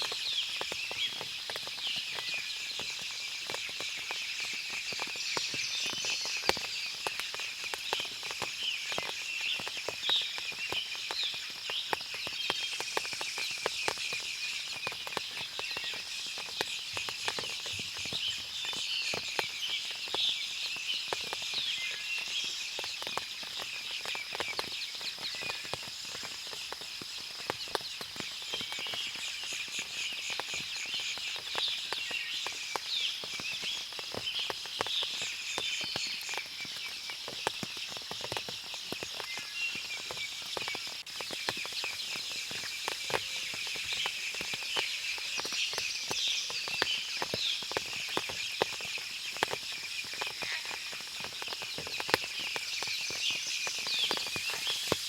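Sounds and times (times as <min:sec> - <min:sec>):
water dripping from trees: 0:00.0 - 0:55.0
birds chirping: 0:00.1 - 0:55.0.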